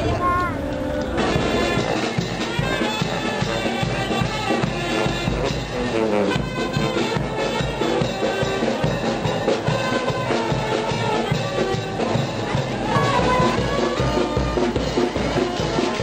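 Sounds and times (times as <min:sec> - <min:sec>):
cymbals: 0:00.0 - 0:16.0
marching brass band playing: 0:00.0 - 0:16.0.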